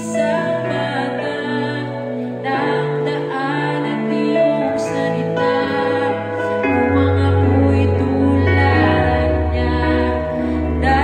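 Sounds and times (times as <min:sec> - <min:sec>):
slow worship song music: 0:00.0 - 0:11.0.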